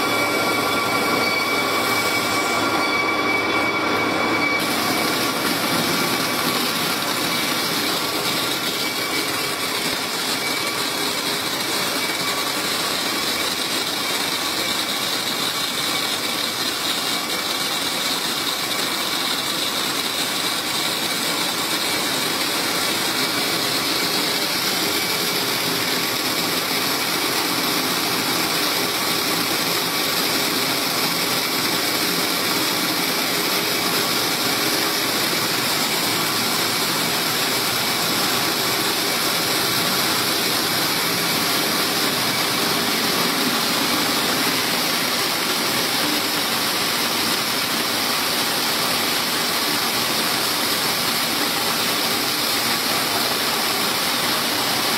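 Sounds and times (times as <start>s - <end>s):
machine noise with high hiss: 0.0s - 54.9s.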